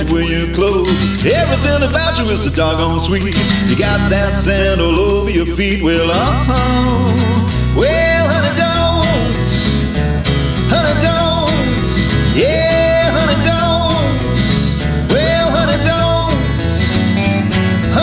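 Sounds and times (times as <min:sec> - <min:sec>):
lead guitar bending notes: 0:00.0 - 0:18.0
steady bass and drum beat: 0:00.0 - 0:18.0.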